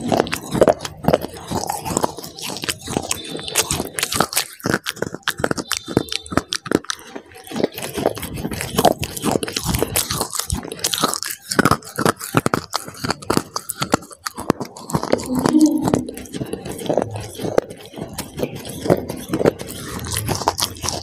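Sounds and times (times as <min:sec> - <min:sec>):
chocolate crunching: 0:00.0 - 0:21.0
wet mouth sounds: 0:00.0 - 0:21.0.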